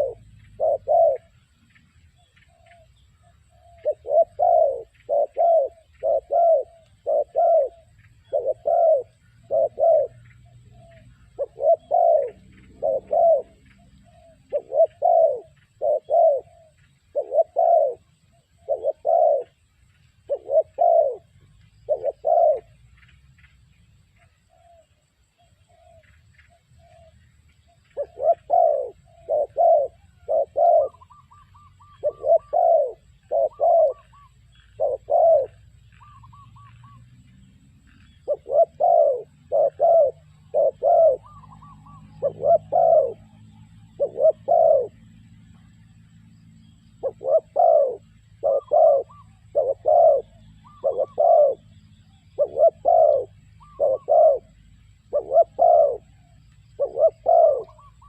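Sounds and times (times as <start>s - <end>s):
dove cooing: 0.0s - 23.0s, 24.2s - 58.0s
faint higher bird calls: 0.0s - 58.0s.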